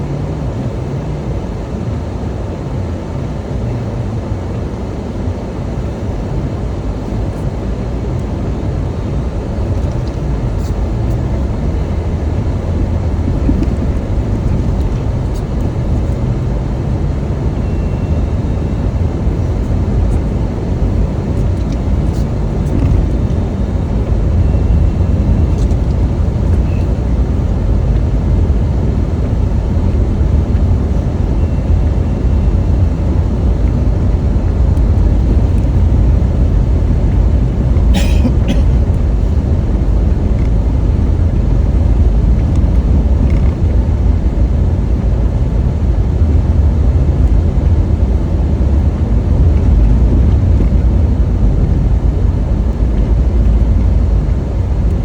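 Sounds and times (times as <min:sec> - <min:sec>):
car road rumble: 0:00.0 - 0:55.0.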